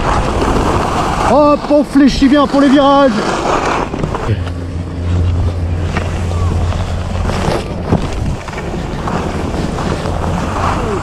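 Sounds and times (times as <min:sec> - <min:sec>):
skis sliding on snow: 0:00.0 - 0:11.0
wind rumbling on microphone: 0:00.0 - 0:11.0.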